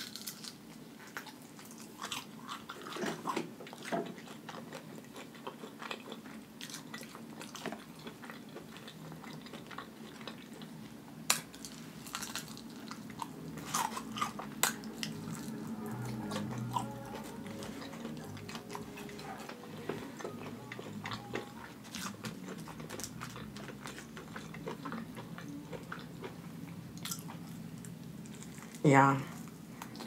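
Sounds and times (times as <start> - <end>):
crunchy chewing of fried chicken: 0.0 - 30.0.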